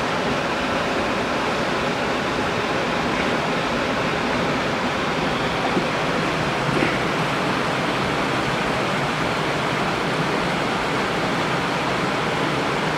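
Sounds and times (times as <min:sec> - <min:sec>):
water rushing over rocks: 0:00.0 - 0:12.9.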